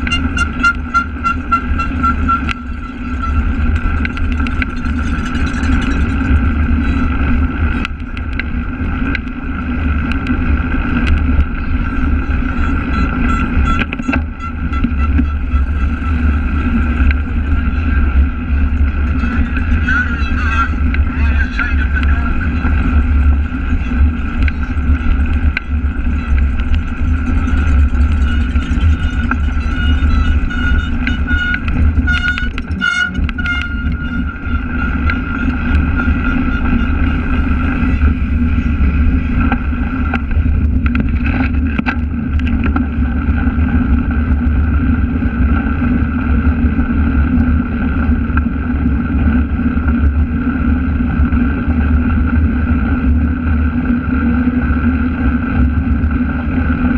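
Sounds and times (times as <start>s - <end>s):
bike rumbling over grass: 0.0s - 56.9s
wind buffeting: 0.0s - 56.9s.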